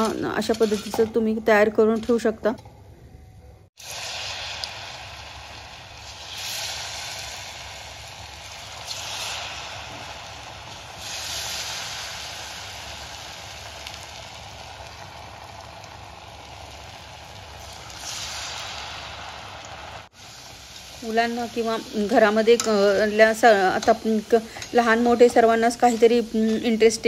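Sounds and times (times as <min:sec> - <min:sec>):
deep-frying sizzle in hot oil: 0:03.8 - 0:27.0.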